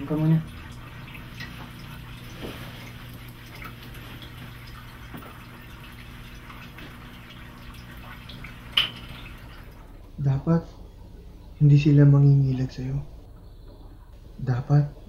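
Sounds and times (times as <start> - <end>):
steady low hum: 0.0 - 15.0
water dripping: 0.0 - 15.0.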